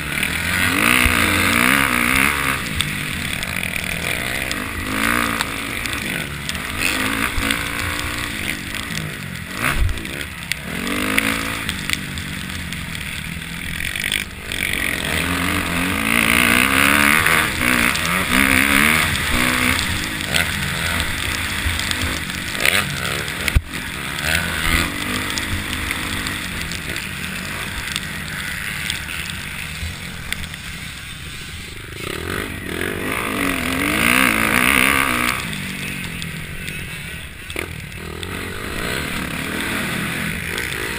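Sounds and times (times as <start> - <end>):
motocross bikes revving: 0.0 - 40.9.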